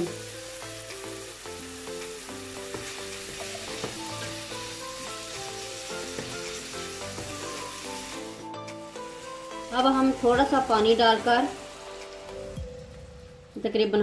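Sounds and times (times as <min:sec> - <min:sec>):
chicken sizzling in a frying pan: 0:00.0 - 0:12.6
soft background music: 0:00.0 - 0:14.0.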